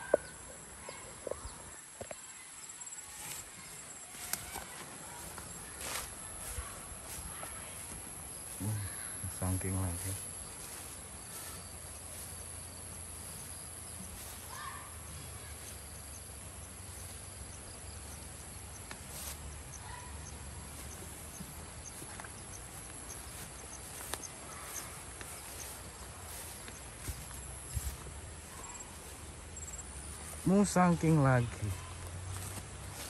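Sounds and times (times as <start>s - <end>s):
insects whining: 0.0s - 33.0s.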